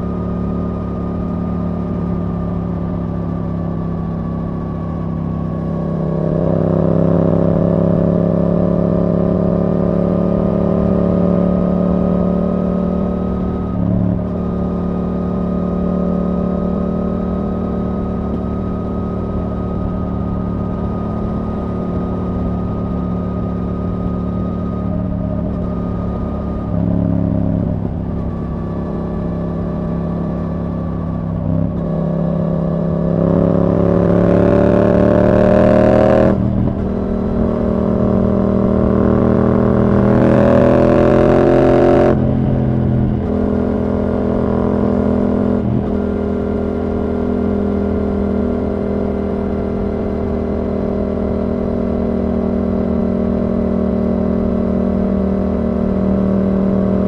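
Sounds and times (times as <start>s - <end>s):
motorcycle accelerating hard: 0.0s - 57.0s
motorcycle engine cruising: 0.0s - 57.0s.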